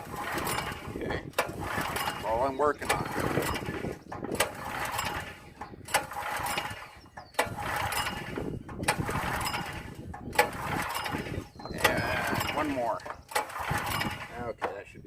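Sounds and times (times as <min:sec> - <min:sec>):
recoil starter pull snapping: 0:00.0 - 0:14.9
engine turning over without firing: 0:00.0 - 0:15.0.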